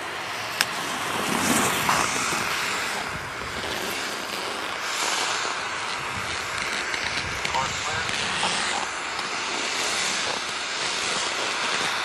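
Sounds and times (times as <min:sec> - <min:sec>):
skis scraping hard snow: 0:00.0 - 0:12.0
wind on microphone: 0:00.0 - 0:12.0.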